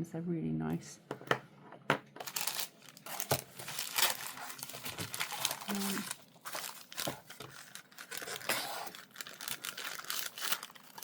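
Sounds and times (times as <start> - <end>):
packaging rustling: 2.2 - 11.0.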